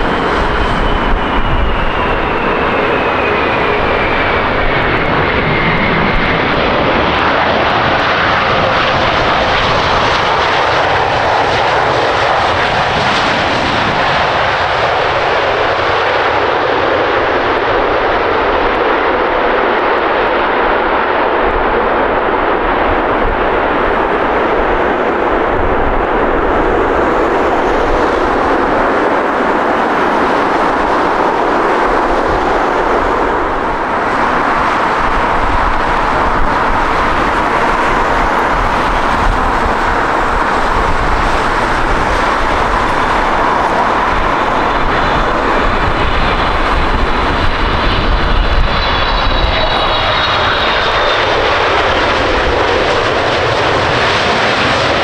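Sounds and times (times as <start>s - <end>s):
high engine whine: 0.0s - 14.0s, 20.7s - 55.0s
jet airliner engine noise: 0.0s - 55.0s.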